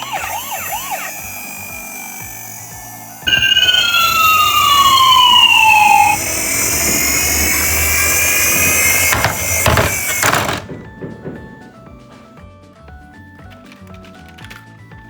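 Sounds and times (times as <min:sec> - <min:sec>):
emergency siren falling pitch: 0:00.0 - 0:12.4.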